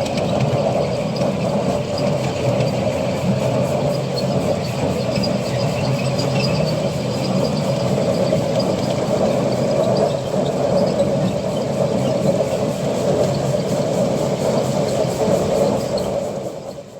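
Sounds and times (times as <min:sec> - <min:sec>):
miniature train rumbling on track: 0:00.0 - 0:16.9.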